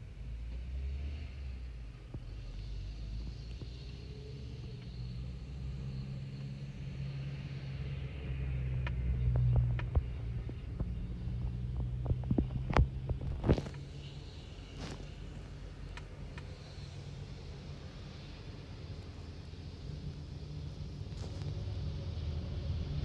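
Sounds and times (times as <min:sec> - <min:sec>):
low rumble and hum: 0:00.0 - 0:23.0.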